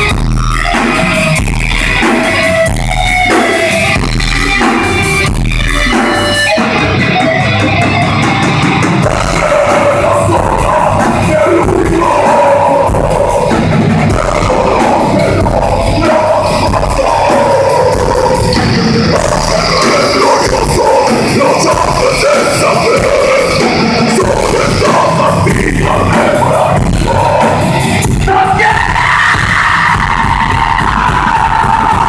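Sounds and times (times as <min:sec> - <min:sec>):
distorted electric guitars: 0:00.0 - 0:32.0
drum kit fast beat: 0:00.0 - 0:32.0.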